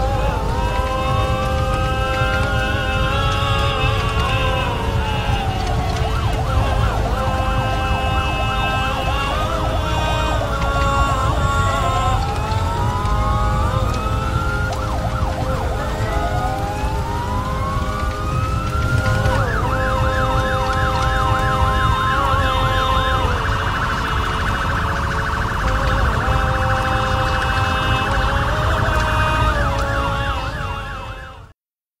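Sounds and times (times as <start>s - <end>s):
low rumble: 0.0s - 31.5s
emergency sirens: 0.0s - 31.6s.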